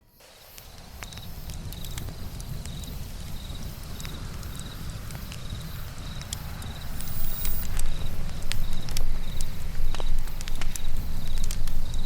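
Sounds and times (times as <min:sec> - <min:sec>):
crickets chirping: 0:00.0 - 0:12.0
campfire crackling and popping: 0:00.2 - 0:12.0.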